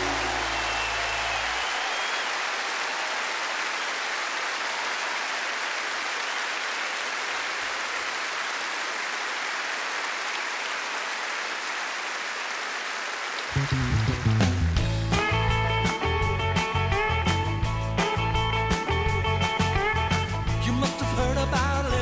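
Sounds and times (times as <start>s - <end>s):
crowd applauding: 0.0s - 20.4s.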